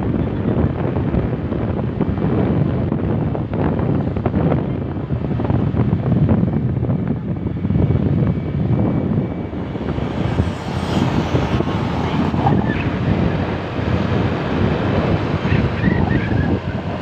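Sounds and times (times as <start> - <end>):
motorcycle engine rumble: 0.0 - 17.0
road noise: 0.0 - 17.0
wind buffeting microphone: 0.0 - 17.0.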